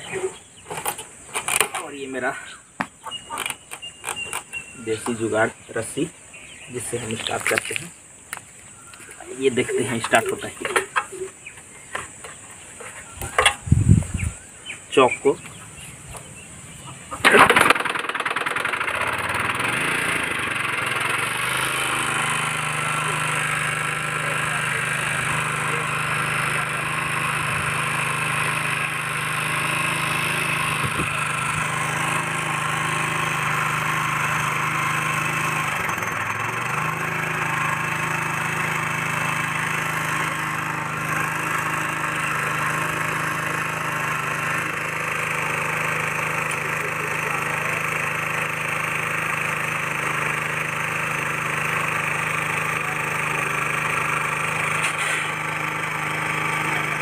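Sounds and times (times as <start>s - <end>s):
small petrol engine idling: 0.0s - 13.7s, 15.4s - 57.0s.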